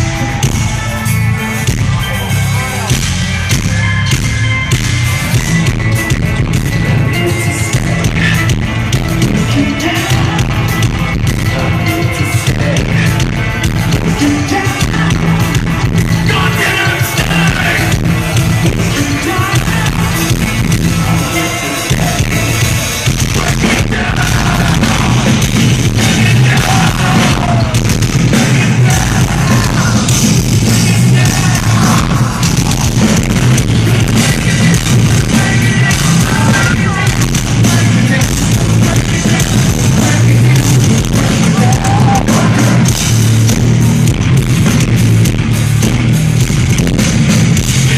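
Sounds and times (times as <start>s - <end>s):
live metal band with vocals: 0.0s - 47.9s.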